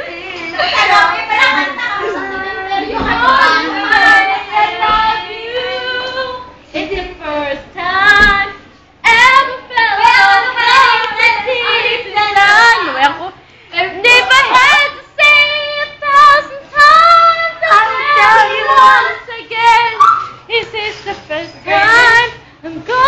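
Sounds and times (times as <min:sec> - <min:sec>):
girl singing unaccompanied: 0:00.0 - 0:23.0.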